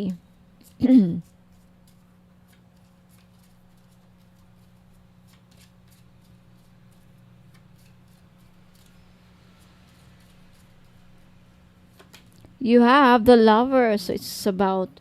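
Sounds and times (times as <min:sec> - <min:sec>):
cards shuffling and flicking: 0:00.0 - 0:12.6
low electrical hum: 0:00.0 - 0:15.0.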